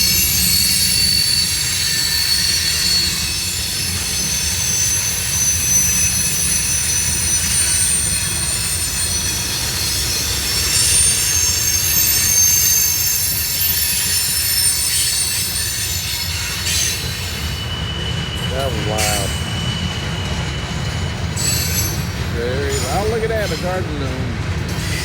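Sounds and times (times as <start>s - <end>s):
train cars rumbling: 0.0s - 25.0s
wheels squealing: 0.0s - 25.0s.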